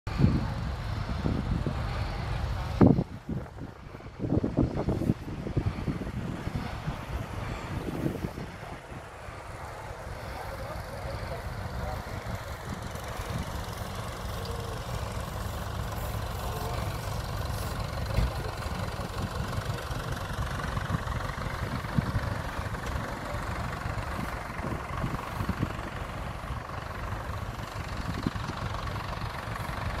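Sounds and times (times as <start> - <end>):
tractor engines idling: 0.1 - 30.0.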